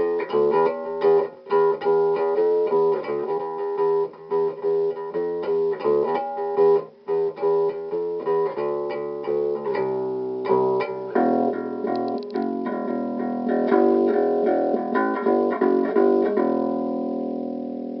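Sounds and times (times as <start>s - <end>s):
electric bass guitar plucked notes: 0.0s - 18.0s.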